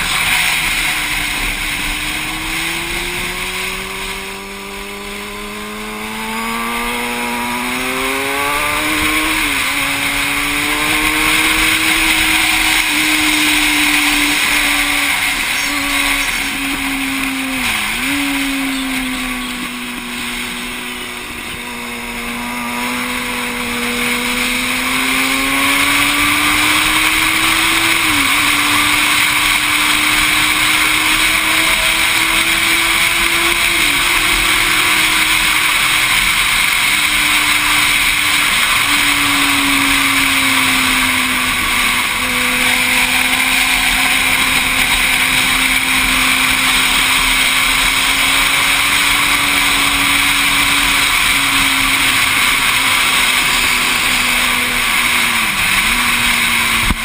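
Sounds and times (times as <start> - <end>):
motorcycle engine running hard: 0.0 - 57.0.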